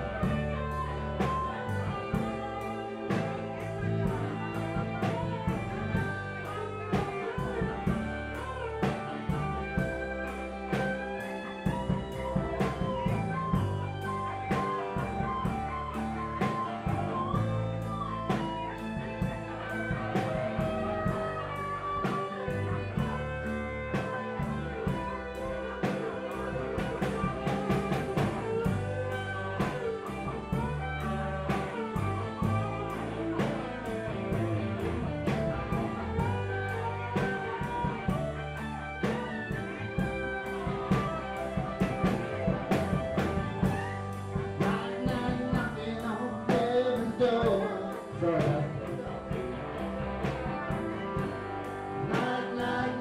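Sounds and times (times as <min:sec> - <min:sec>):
bass guitar: 0:00.0 - 0:53.0
drum kit steady beat: 0:00.0 - 0:53.0
electric guitar lead: 0:00.0 - 0:53.0.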